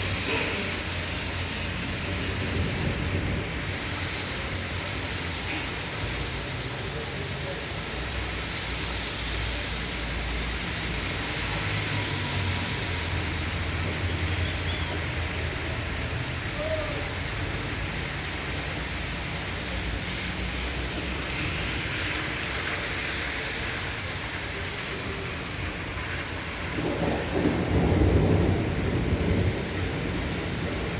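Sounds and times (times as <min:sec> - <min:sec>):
heavy rain: 0:00.0 - 0:30.9.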